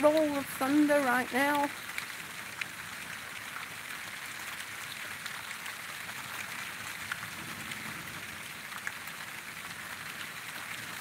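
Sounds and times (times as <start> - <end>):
heavy rain on trees: 0.0 - 11.0
sharp raindrop ticks: 0.0 - 11.0.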